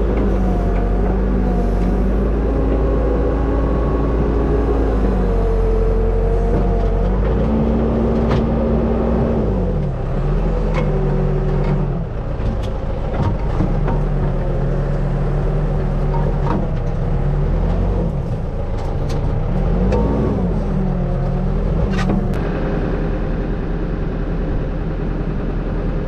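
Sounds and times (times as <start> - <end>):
backhoe diesel engine running: 0.0 - 26.0.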